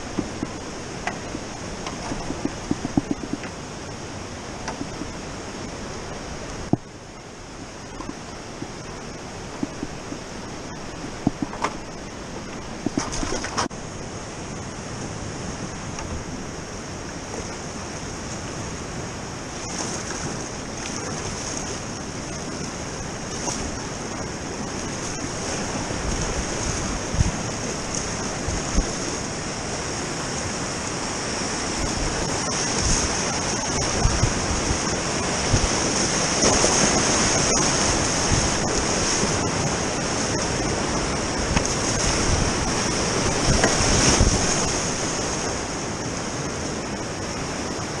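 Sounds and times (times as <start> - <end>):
wind buffeting microphone: 0.0 - 3.6, 7.6 - 13.7, 15.3 - 48.0
whitewater rapids rushing: 0.0 - 48.0.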